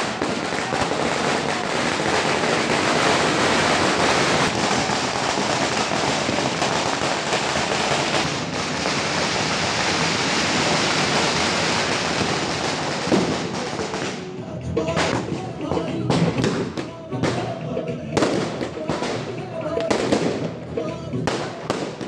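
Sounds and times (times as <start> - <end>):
firecrackers bursting: 0.0 - 22.0.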